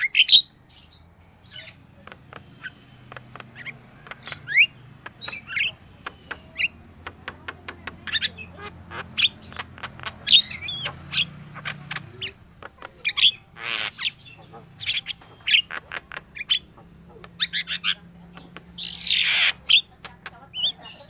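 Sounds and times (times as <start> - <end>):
bird chirping and whistling: 0.0 - 6.8, 8.0 - 12.4, 13.0 - 18.0, 18.8 - 19.9.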